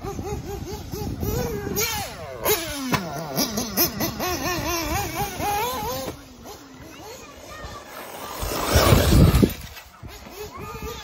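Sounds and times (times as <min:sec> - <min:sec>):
toy buggy motor revving: 0:00.0 - 0:11.0.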